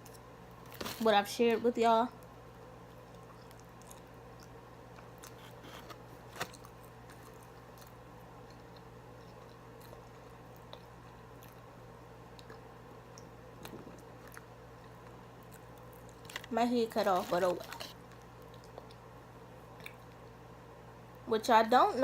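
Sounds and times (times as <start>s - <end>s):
low room hum: 0.0s - 22.0s
chewing crunchy food: 2.2s - 20.4s.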